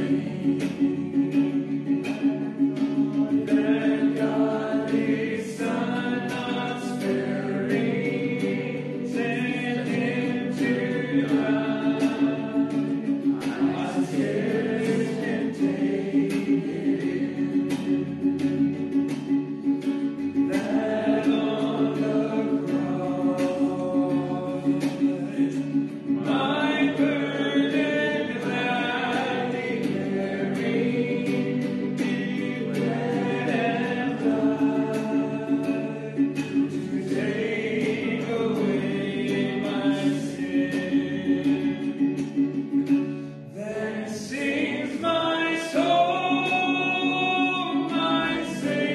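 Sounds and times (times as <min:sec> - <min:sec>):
group singing a hymn: 0:00.0 - 0:48.9.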